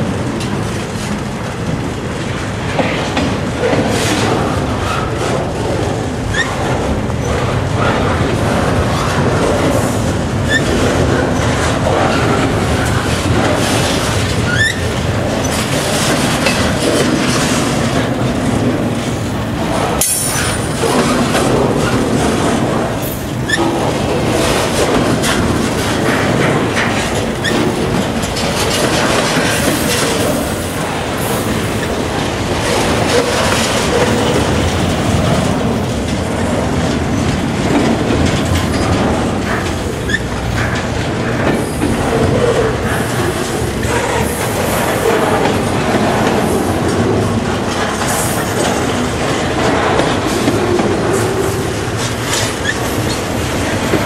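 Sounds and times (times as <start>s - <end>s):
train wheels rumbling on rails: 0.0s - 54.0s
wheels clacking over rail joints: 0.0s - 54.0s.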